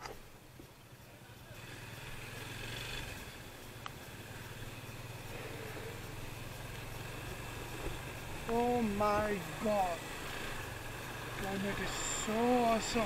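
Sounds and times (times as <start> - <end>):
motorcycle engine humming: 0.0 - 13.0
wind and road noise: 0.0 - 13.0.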